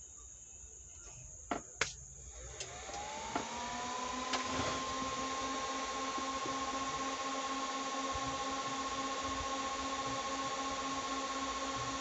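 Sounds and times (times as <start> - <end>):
steady low hum: 0.0 - 12.0
cooling fan whine: 1.2 - 12.0.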